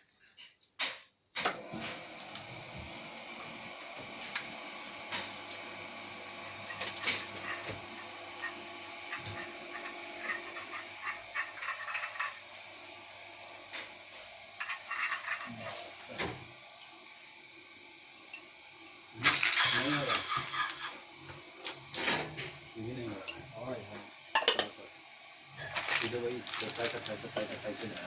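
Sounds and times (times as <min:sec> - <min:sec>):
steady hum: 0:03.6 - 0:28.0.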